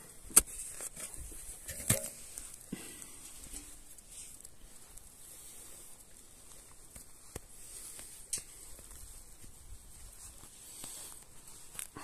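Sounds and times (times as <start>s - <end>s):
soil crumbling and rustling: 0.0s - 12.0s
grass roots tearing: 0.3s - 12.0s.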